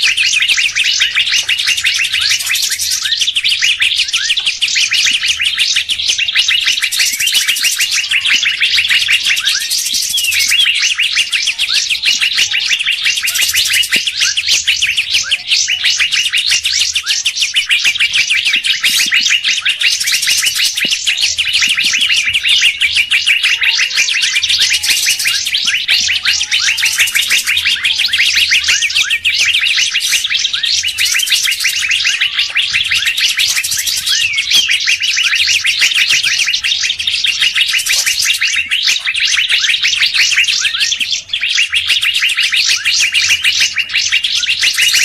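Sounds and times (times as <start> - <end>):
small songbirds chirping and trilling: 0.0 - 45.0.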